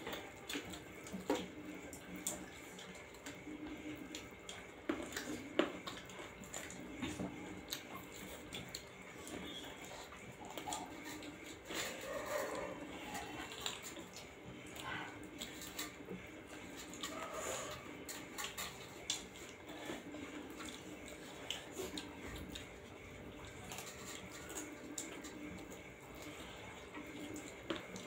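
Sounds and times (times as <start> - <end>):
wet chewing and lip smacking: 0.0 - 28.0.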